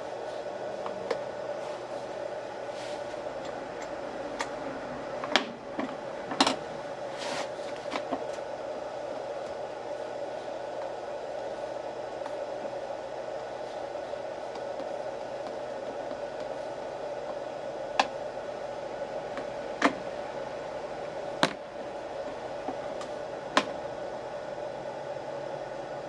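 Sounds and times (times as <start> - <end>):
fan-like hum: 0.0 - 26.0.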